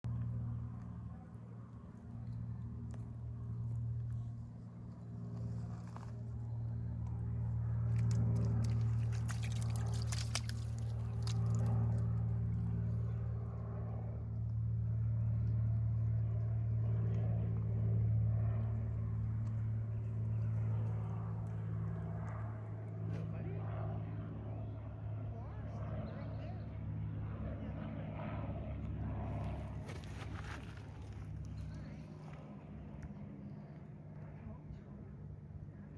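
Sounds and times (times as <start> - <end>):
low engine drone: 0.0 - 35.9.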